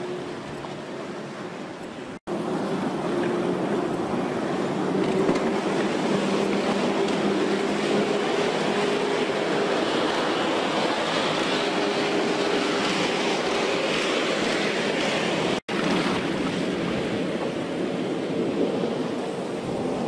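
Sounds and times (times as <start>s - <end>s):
boat engine drone: 0.0s - 20.0s
bow wake rushing: 0.0s - 20.0s.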